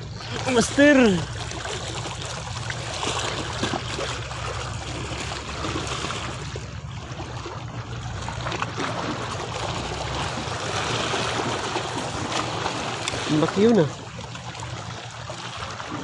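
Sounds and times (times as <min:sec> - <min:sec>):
low even hum: 0:00.0 - 0:16.0
small waves lapping against rocks: 0:00.0 - 0:16.0.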